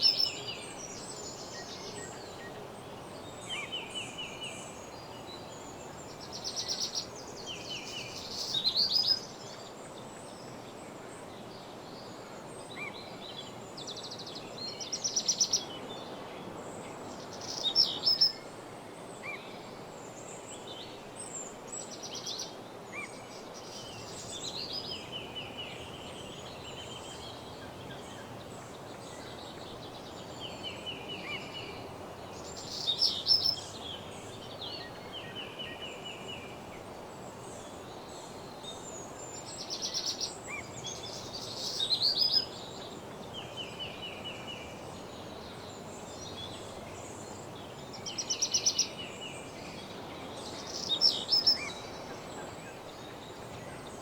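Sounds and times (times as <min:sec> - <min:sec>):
songbirds singing trills: 0:00.0 - 0:10.6, 0:16.8 - 0:18.5, 0:19.2 - 0:54.0
steady background hiss: 0:00.0 - 0:54.0.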